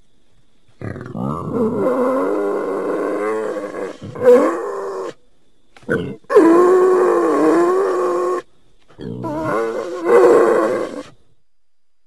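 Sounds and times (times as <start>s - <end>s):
wild boar calling: 0.8s - 5.2s, 5.8s - 11.2s.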